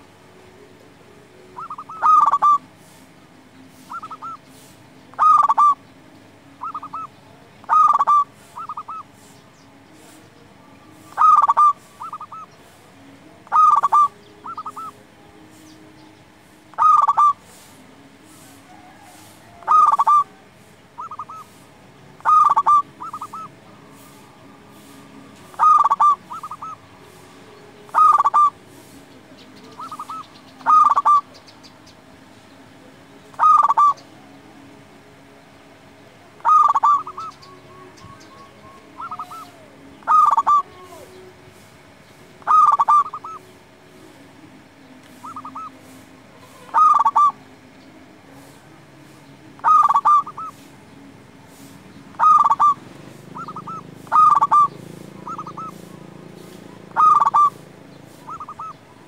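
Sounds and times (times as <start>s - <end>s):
dove cooing: 0.0s - 31.6s, 33.3s - 34.7s, 36.3s - 44.1s, 45.1s - 50.8s, 51.4s - 59.0s.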